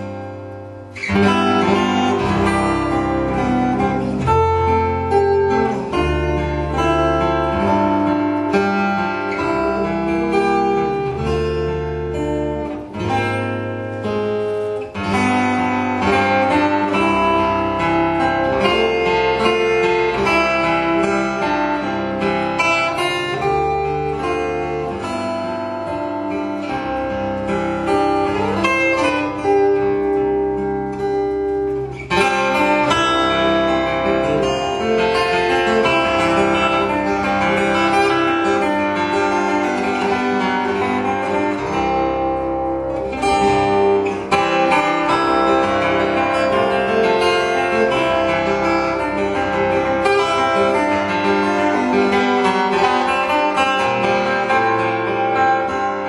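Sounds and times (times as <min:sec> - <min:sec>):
fingerstyle acoustic guitar: 0:00.0 - 0:56.0.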